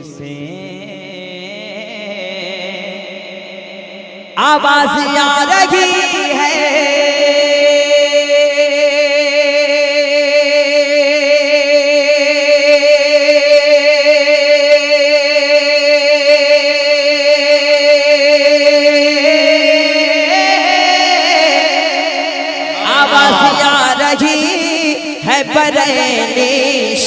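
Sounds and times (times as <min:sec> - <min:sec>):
man singing long note: 0:00.0 - 0:27.0.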